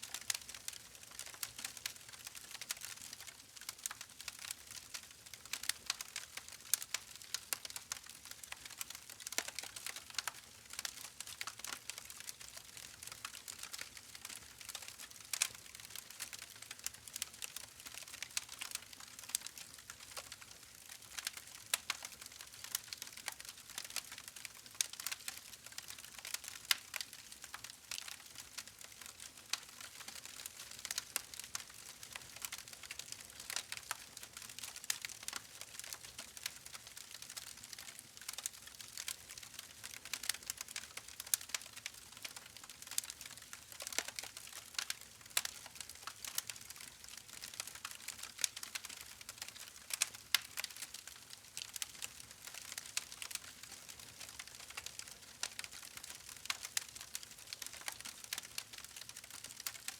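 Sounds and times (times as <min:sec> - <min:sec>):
soft steady hiss: 0:00.0 - 0:59.9
campfire wood crackling: 0:00.1 - 0:59.9.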